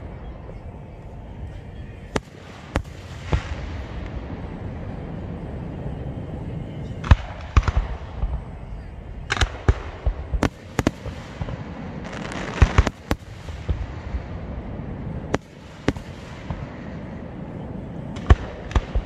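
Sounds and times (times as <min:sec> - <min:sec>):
fireworks bursting: 0:02.0 - 0:19.0.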